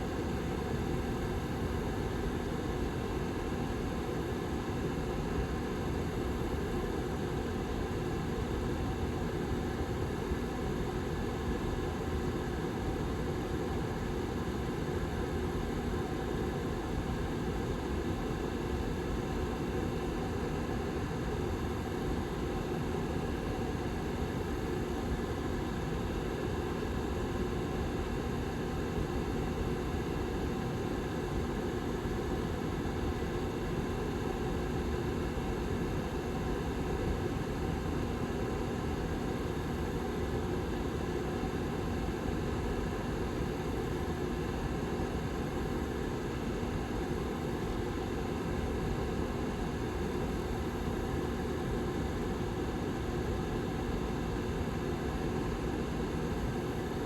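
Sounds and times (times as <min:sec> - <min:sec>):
heater fan whirring: 0:00.0 - 0:57.0.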